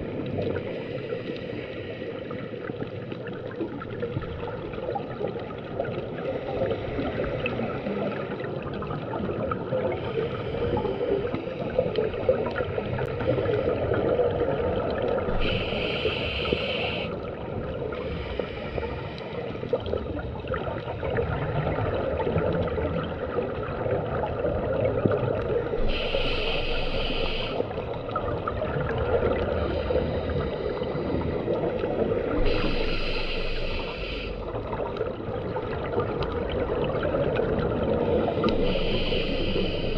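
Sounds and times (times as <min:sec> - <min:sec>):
muffled water rumble: 0:00.0 - 0:39.9
regulator hiss and bubbles: 0:00.0 - 0:39.9.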